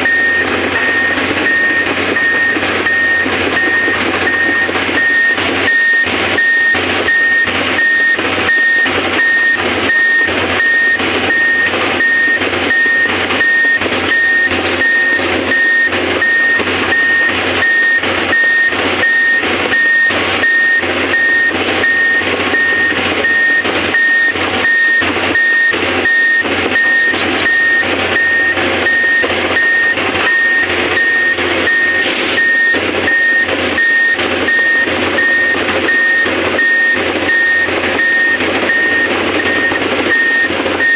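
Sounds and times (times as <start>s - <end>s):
excavator warning alarm beeping: 0.0s - 40.9s
machine noise: 0.0s - 40.9s.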